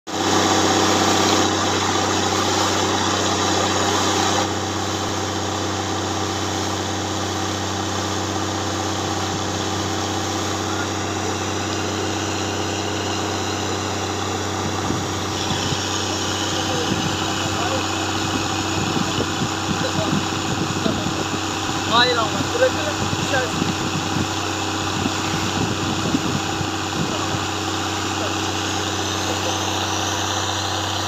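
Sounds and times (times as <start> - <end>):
drilling machinery engine: 0.1 - 31.0
water and air jetting: 0.2 - 31.0.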